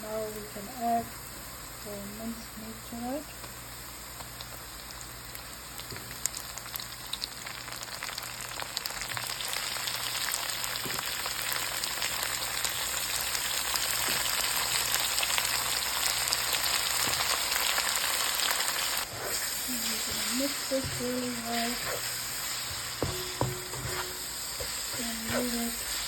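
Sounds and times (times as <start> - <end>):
meat sizzling in hot oil: 0.4 - 26.0.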